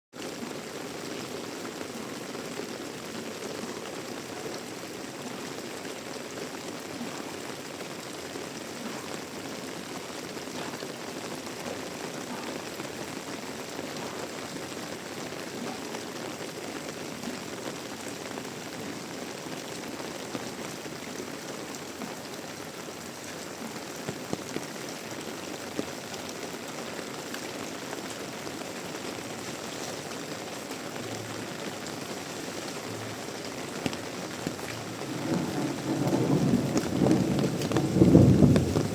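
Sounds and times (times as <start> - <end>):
heavy rain: 0.1 - 38.9.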